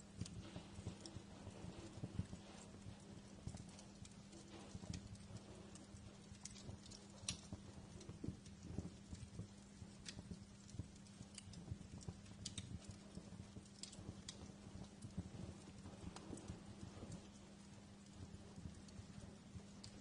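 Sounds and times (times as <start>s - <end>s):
steady low hum: 0.0s - 20.0s
wood fire crackling: 0.0s - 20.0s.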